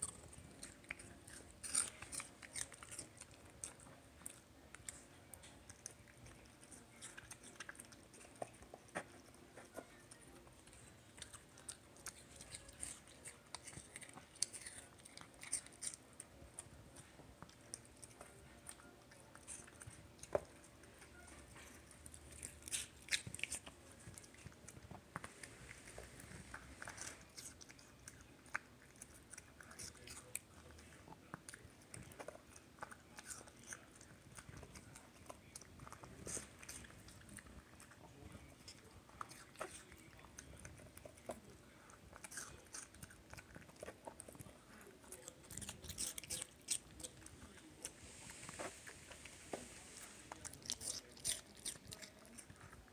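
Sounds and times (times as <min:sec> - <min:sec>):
dog crunching pear: 0:00.0 - 0:52.9.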